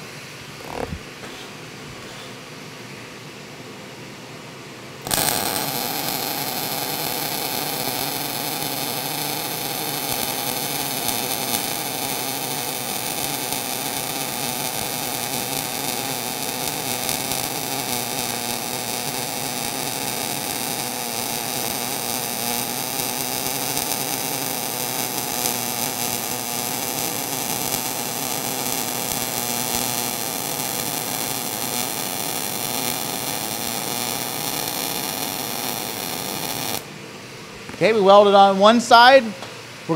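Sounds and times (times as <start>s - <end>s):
welding arc crackling: 0.5s - 1.1s, 5.0s - 36.9s.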